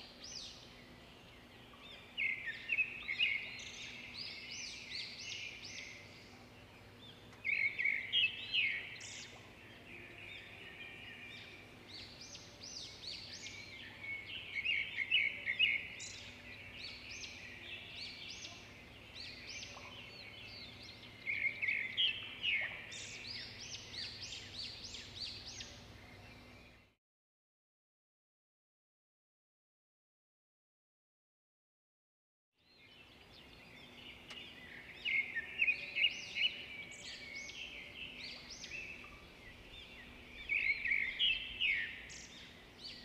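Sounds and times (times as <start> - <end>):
birds chirping: 0.0 - 26.9, 32.7 - 43.0.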